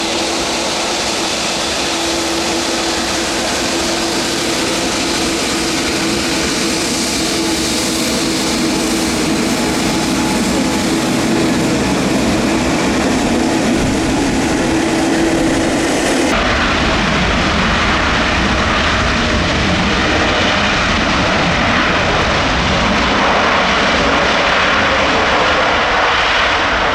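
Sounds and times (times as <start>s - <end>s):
jet airliner engines: 0.0s - 26.9s.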